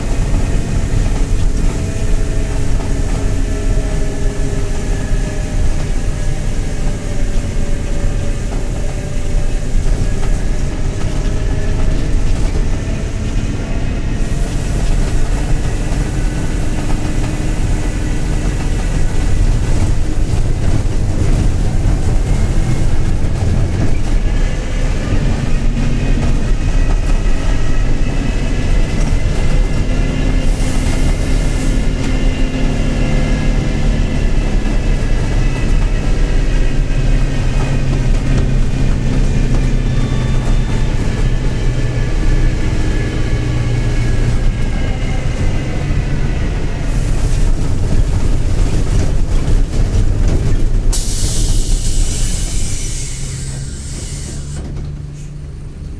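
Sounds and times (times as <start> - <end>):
bus diesel engine running: 0.0 - 55.9
rising and falling whine: 0.2 - 46.9.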